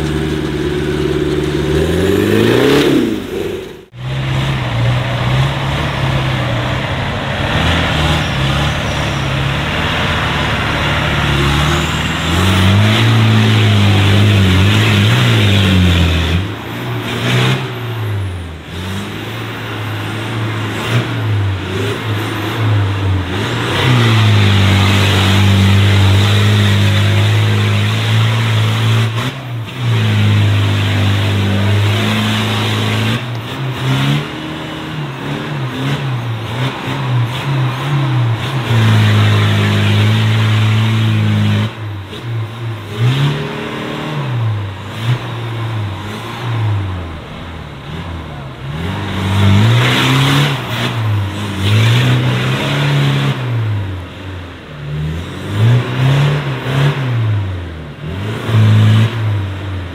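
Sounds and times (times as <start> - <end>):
engine revving hard: 0.0 - 54.0, 54.9 - 59.9.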